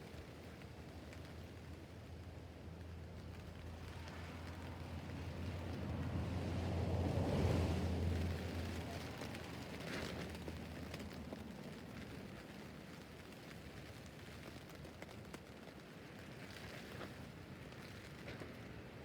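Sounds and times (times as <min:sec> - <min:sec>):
rain on a tent roof: 0:00.0 - 0:19.0.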